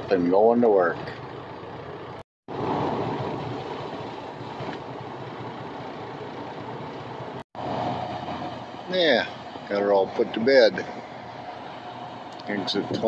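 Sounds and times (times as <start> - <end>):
truck rumbling and hissing: 0.7 - 13.0.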